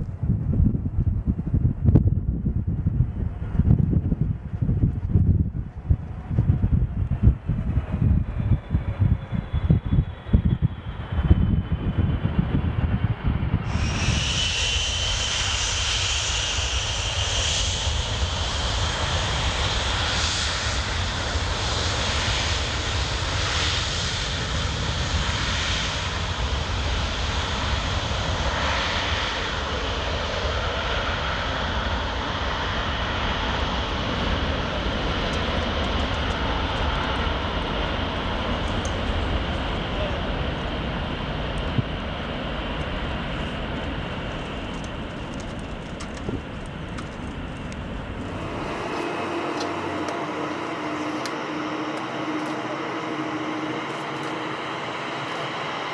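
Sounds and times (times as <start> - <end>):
jet engines whining: 1.2 - 55.9.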